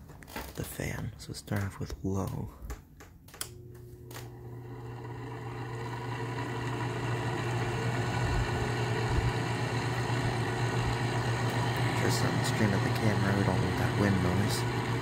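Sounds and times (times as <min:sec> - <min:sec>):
air conditioner fan humming: 0:00.0 - 0:15.0.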